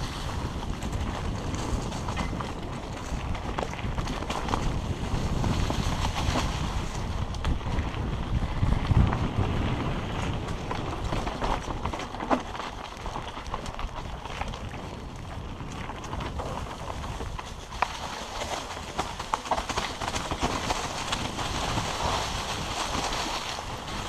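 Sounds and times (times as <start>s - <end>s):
bike rattling and knocking: 0.0s - 24.0s
tyres crunching over rocks: 0.0s - 24.0s
wind rumbling on microphone: 0.0s - 24.0s.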